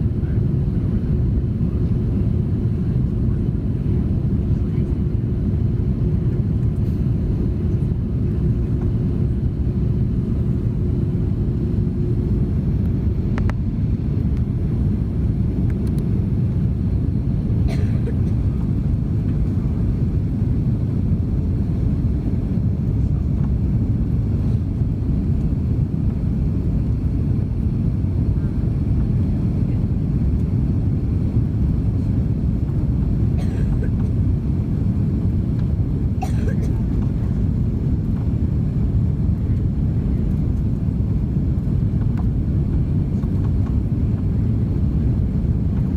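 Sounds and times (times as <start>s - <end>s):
aircraft cabin engine rumble: 0.0s - 45.9s.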